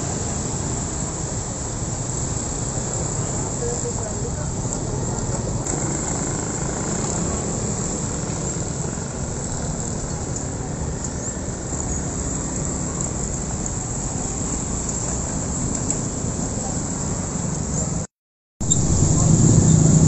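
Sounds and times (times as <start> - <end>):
motorcycles and scooters running: 0.0 - 20.0.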